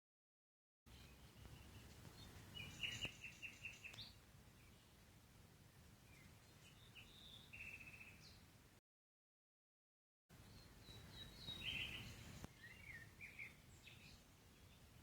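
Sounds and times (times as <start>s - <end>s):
songbird trill: 0.9s - 8.6s, 10.3s - 15.0s
quiet outdoor ambience: 0.9s - 8.8s, 10.3s - 15.0s.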